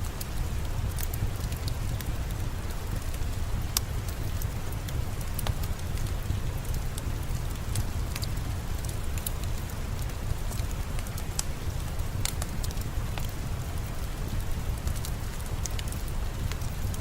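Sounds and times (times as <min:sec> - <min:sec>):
fireplace fire crackling: 0:00.0 - 0:17.0
steady rain: 0:00.0 - 0:17.0.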